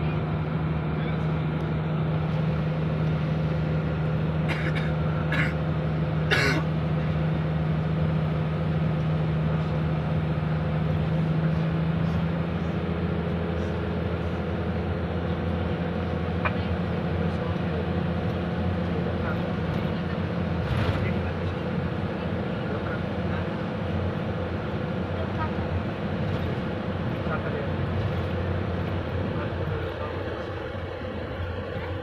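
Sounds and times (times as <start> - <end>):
vehicle engine and road drone: 0.0 - 32.0.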